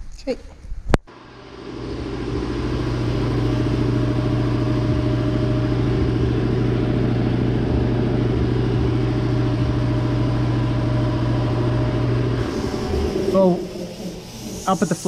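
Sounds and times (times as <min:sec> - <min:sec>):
machine low hum: 0:01.1 - 0:15.0.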